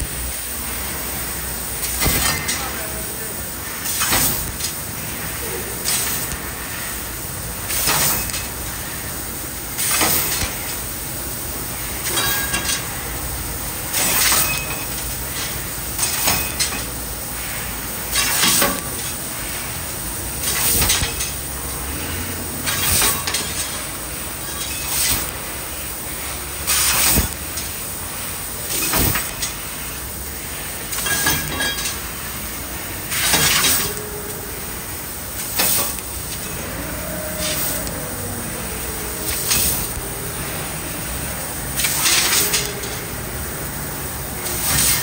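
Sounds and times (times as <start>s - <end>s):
laser cutter hissing: 0.0s - 45.0s.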